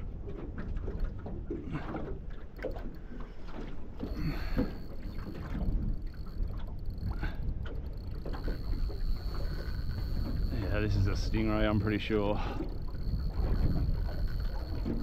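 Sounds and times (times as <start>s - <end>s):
low rumble of wind and water: 0.0s - 15.0s
water slapping against boat hull: 0.0s - 15.0s.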